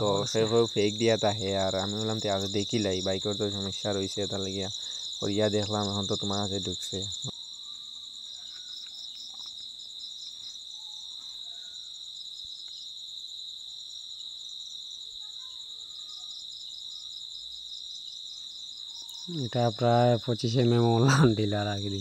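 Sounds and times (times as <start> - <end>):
insect trilling: 0.0 - 22.0.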